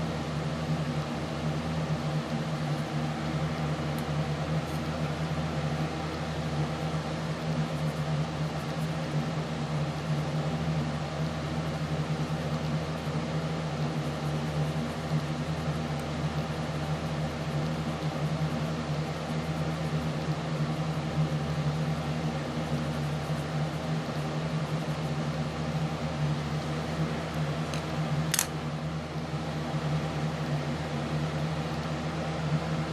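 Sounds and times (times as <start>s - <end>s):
mechanical hum with low drone: 0.0s - 32.9s.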